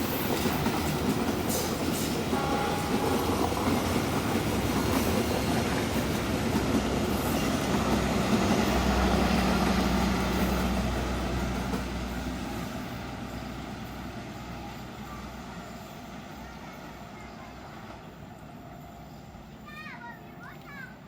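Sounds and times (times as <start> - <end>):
passenger train rumbling past: 0.0 - 21.0
train wheel noise: 0.0 - 21.0.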